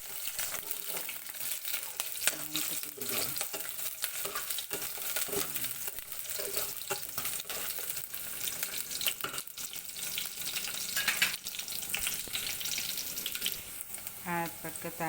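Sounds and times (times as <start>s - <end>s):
utensil scraping pot: 0.0s - 13.7s
onions sizzling in oil: 0.0s - 15.0s.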